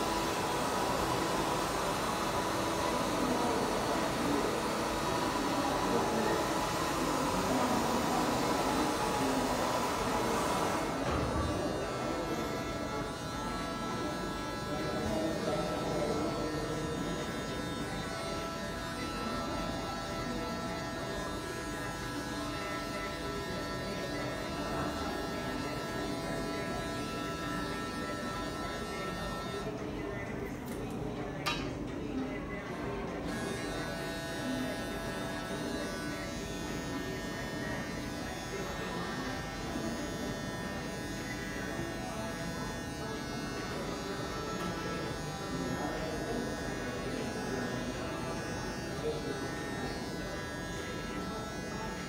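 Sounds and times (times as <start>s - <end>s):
electric hair clippers buzzing: 0.0s - 31.7s, 32.6s - 52.0s.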